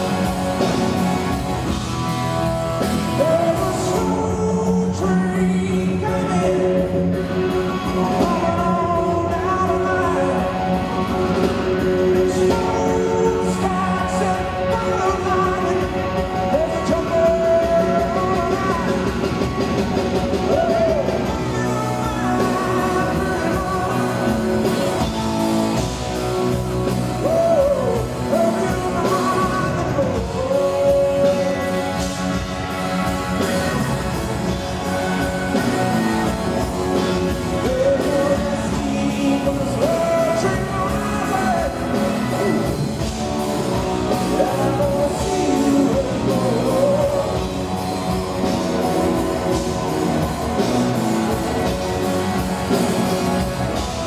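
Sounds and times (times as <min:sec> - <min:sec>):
drums: 0:00.0 - 0:54.0
electric guitar: 0:00.0 - 0:54.0
man singing: 0:02.5 - 0:50.0.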